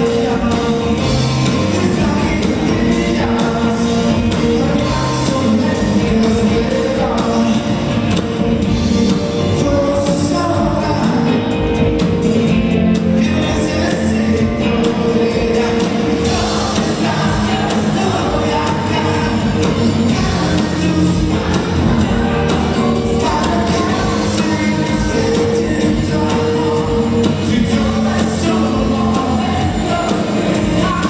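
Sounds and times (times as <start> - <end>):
live rock band playing: 0.0 - 31.0
man singing: 0.0 - 31.0.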